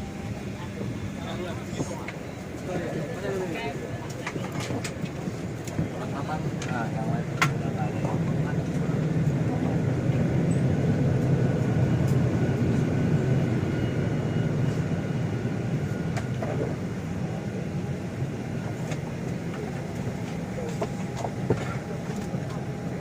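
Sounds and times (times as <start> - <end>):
airliner cabin drone and hiss: 0.0 - 23.0.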